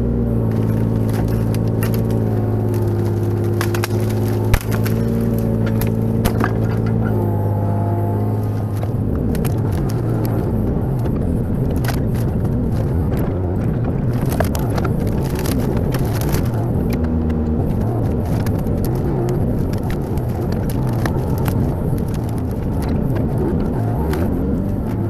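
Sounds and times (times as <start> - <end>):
mini excavator diesel engine running: 0.0 - 25.0
sharp cracks and knocks: 0.4 - 7.4, 8.4 - 25.0.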